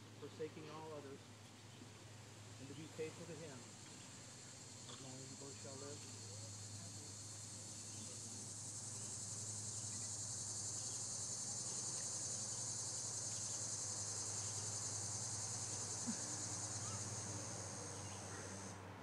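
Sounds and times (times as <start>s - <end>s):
faint low hum: 0.0s - 19.0s
insects chorus: 0.0s - 19.0s.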